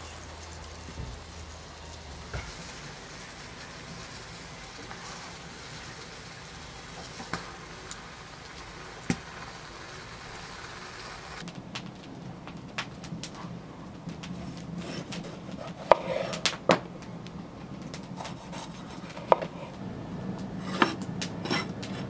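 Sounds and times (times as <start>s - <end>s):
coals crackling pops: 0.0s - 22.0s
pepper sizzling on charcoal: 0.0s - 22.0s.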